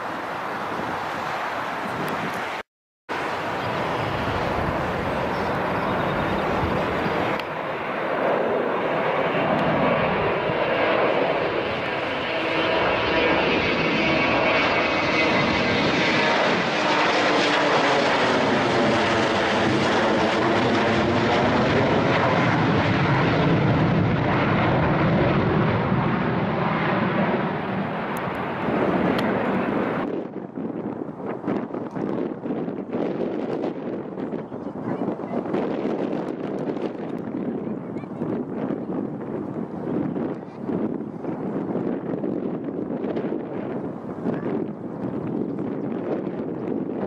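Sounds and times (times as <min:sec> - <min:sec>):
airplane engines at takeoff: 0:00.0 - 0:47.0.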